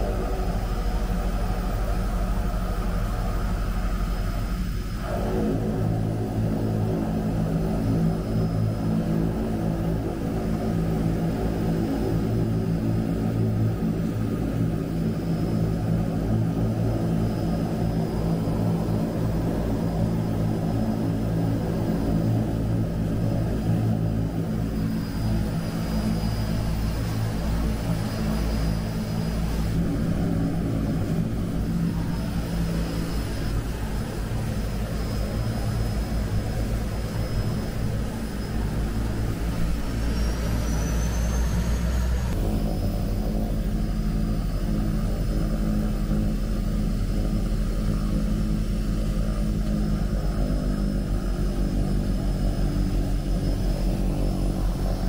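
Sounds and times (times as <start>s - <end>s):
thin high whine: 0.0s - 13.3s, 13.9s - 55.0s
propeller engine drone: 0.0s - 55.0s.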